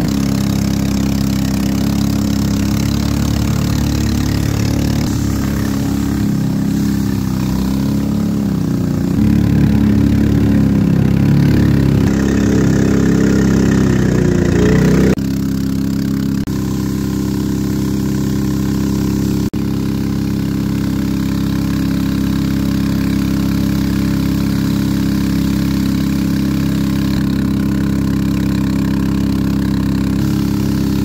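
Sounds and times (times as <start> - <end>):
small boat engine running: 0.0 - 31.0.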